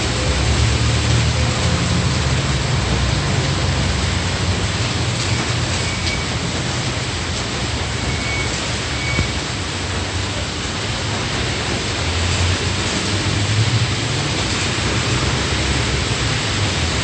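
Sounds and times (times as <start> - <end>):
rain falling on road and vehicles: 0.0 - 17.0.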